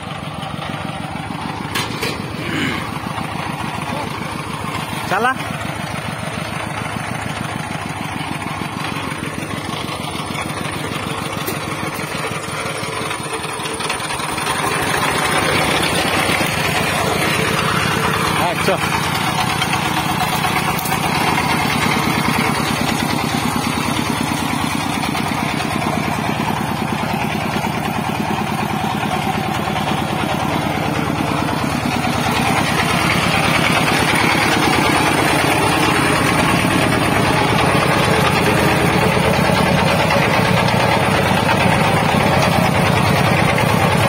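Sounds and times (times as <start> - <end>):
diesel engine rapid firing beat: 0.0 - 44.0.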